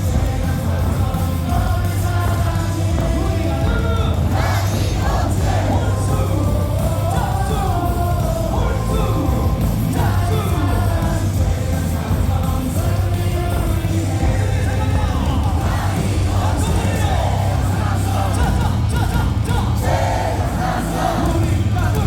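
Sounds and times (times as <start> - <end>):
crowd singing and yelling: 0.0 - 22.0
stadium music over loudspeakers: 0.0 - 22.0.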